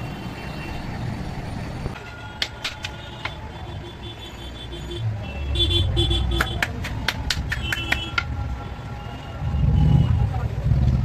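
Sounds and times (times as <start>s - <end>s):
road traffic rumbling: 0.0s - 11.0s.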